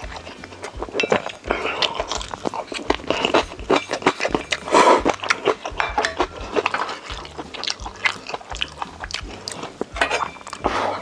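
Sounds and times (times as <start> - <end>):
chewing: 0.0 - 11.0
utensils clinking against dishes: 0.0 - 11.0.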